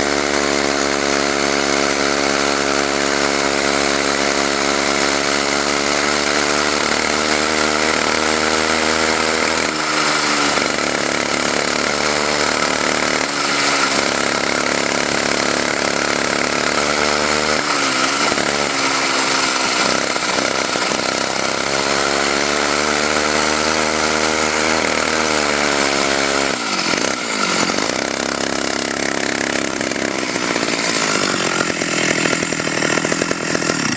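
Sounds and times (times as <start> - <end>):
two-stroke engine running: 0.0 - 33.9.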